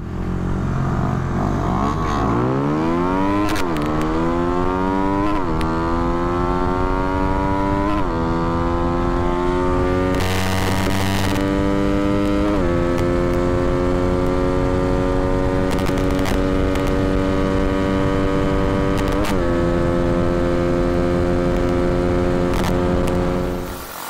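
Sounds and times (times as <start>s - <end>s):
motorcycle engine accelerating hard: 0.0s - 23.7s.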